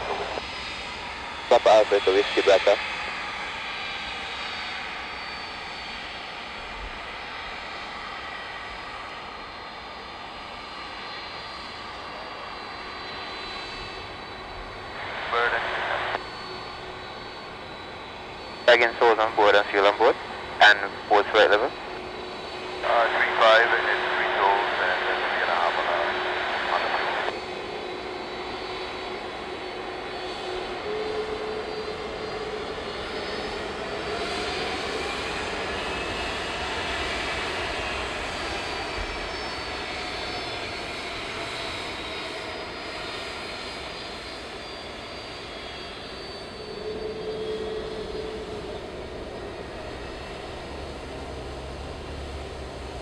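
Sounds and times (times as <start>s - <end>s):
jet engines taxiing: 0.0s - 53.0s.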